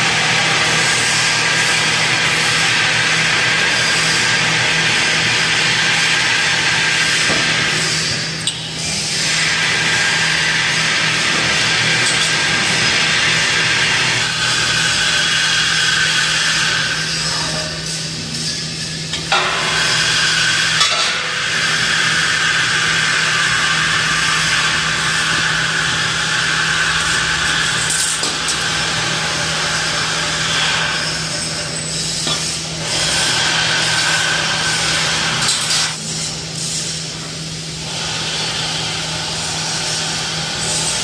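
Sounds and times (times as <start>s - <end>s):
continuous machinery hiss: 0.0s - 41.0s.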